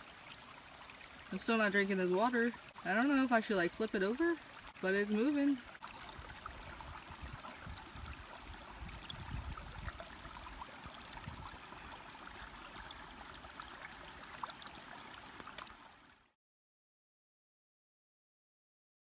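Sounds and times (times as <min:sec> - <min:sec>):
stream trickling over rocks: 0:00.0 - 0:16.4.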